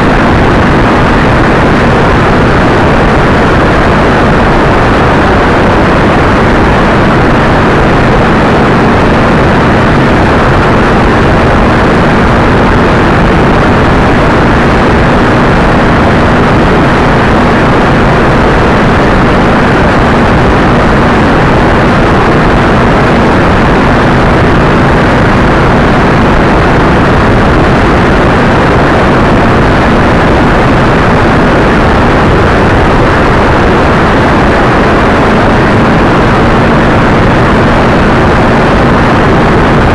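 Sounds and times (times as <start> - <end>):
motorcycle engine humming: 0.0 - 39.9
wind rush over microphone: 0.0 - 39.9.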